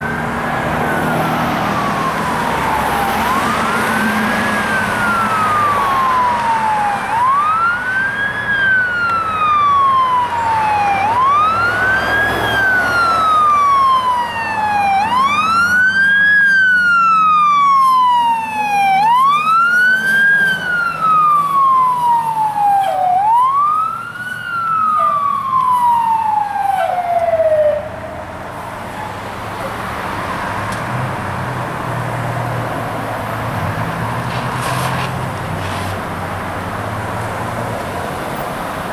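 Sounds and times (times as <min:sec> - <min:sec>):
fire engine siren wailing: 0:00.0 - 0:38.9
truck engine rumble: 0:00.0 - 0:38.9.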